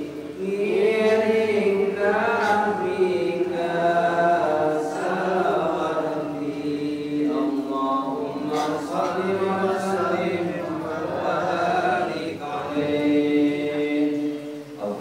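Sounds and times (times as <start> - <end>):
man chanting a prayer: 0.0 - 15.0.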